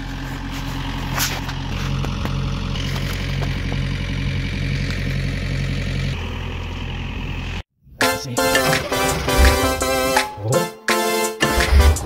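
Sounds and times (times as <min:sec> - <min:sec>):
tractor engine running at low revs: 0:00.0 - 0:07.7, 0:08.6 - 0:10.1, 0:11.4 - 0:12.0.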